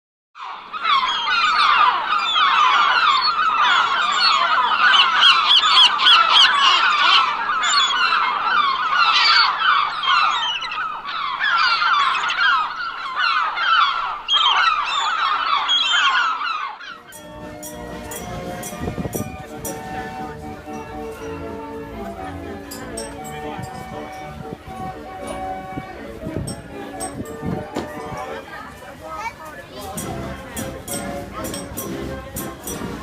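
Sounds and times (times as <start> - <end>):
gulls calling: 0.4 - 33.0.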